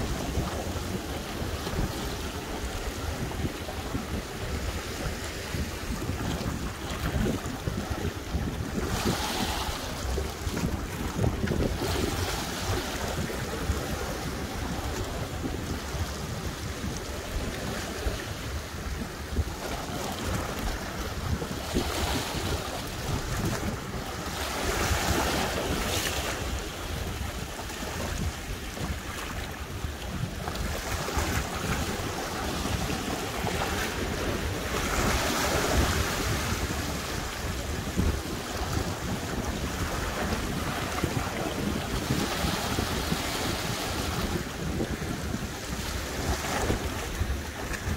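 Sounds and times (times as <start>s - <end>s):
sea waves washing over rocks: 0.0s - 47.9s
wind buffeting microphone: 0.0s - 47.9s.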